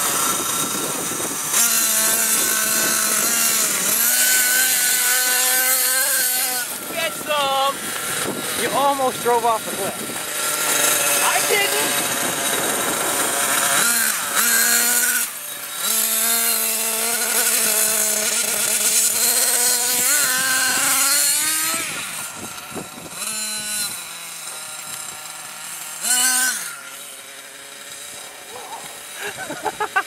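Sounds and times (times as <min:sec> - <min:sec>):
small engine revving with whine: 0:00.0 - 0:30.0.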